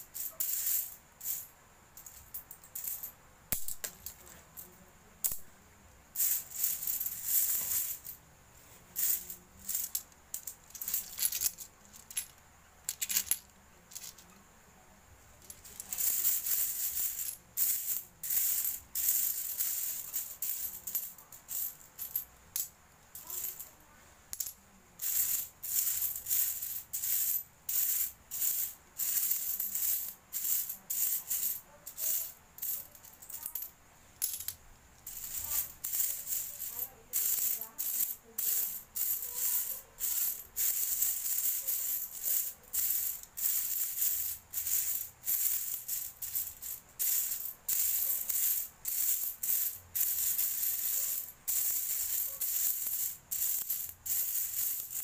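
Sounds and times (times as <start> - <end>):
metal coins jingling: 0.0 - 4.2, 6.2 - 8.2, 9.0 - 14.2, 15.4 - 23.7, 24.3 - 55.0.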